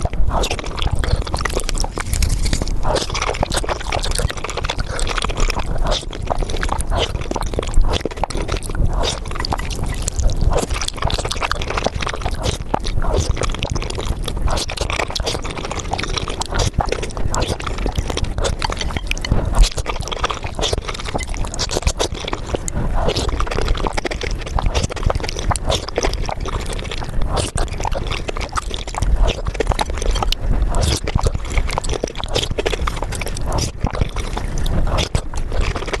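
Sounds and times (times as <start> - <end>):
person slurping and chewing: 0.0 - 36.0.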